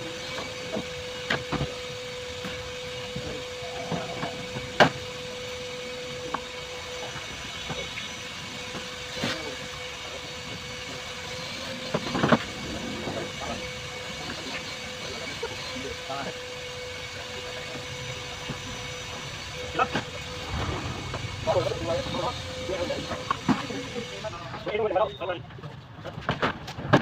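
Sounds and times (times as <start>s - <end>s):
steady workshop hum: 0.0s - 24.9s.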